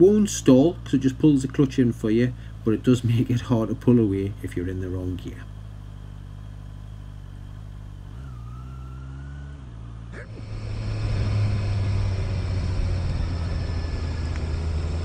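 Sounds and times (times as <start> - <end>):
motorcycle engine idling: 0.0 - 15.0
motorcycle riding away: 0.0 - 15.0.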